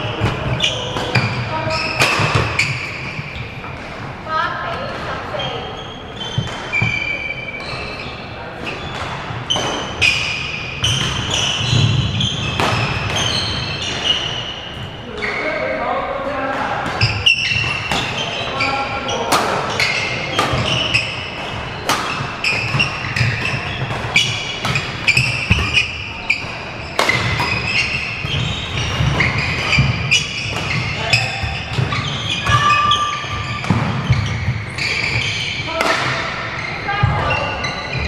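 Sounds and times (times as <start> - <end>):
rackets hitting shuttlecock: 0.0 - 4.0, 6.3 - 7.7, 8.9 - 14.3, 16.5 - 37.4
shoes squeaking: 0.0 - 15.8, 16.9 - 38.0.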